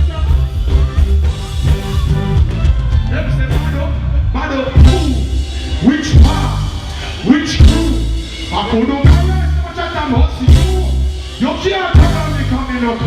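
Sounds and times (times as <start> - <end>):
live reggae band music: 0.0 - 13.0.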